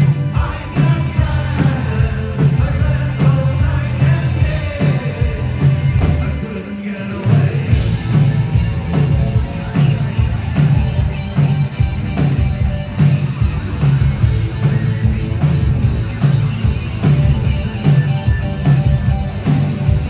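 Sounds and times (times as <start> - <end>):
bass and drums: 0.0 - 20.0
electric guitar: 0.0 - 20.0.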